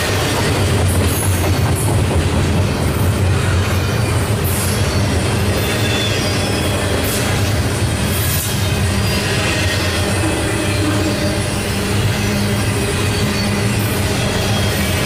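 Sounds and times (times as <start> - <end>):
train wheels rumbling on rail: 0.0 - 15.0
high wheel squeals: 2.7 - 15.0.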